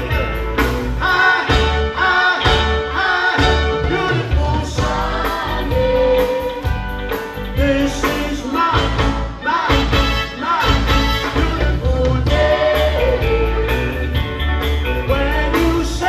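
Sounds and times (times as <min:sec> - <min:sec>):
country band playing live: 0:00.0 - 0:16.0.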